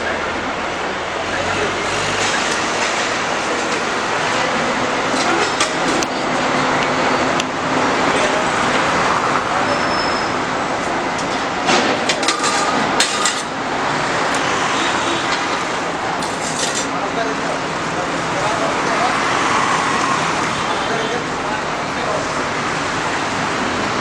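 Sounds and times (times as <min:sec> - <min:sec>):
indistinct voices: 0:00.0 - 0:24.0
traffic noise: 0:00.0 - 0:24.0.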